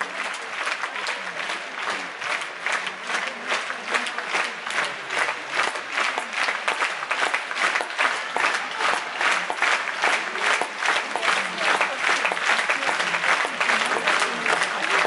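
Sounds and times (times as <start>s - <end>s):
audience clapping in unison: 0.0s - 15.0s.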